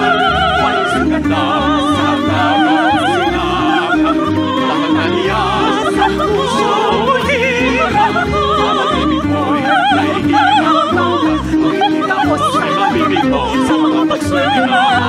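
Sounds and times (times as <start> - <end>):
voices singing operatically: 0.0 - 15.0.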